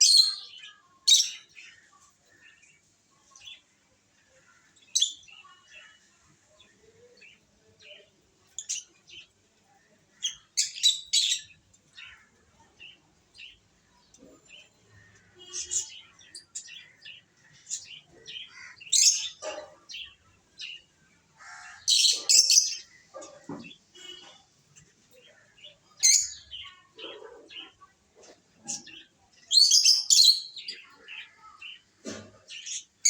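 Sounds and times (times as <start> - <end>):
lovebirds chirping: 0.0 - 33.0.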